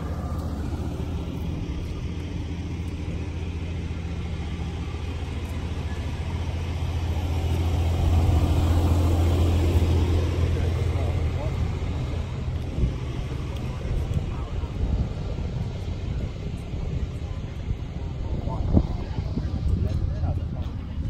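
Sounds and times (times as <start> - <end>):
motor vehicle engine rumbling: 0.0 - 21.0
street noise: 0.0 - 21.0.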